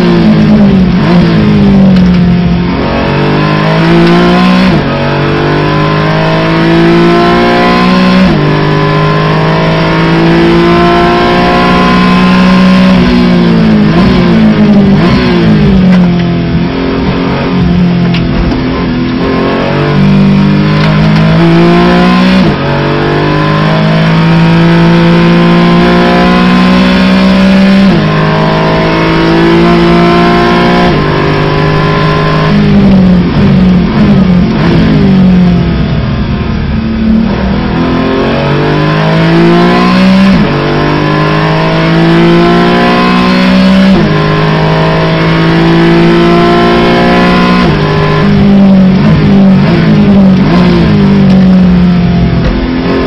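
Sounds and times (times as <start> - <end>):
car engine revving through gears: 0.0 - 53.0.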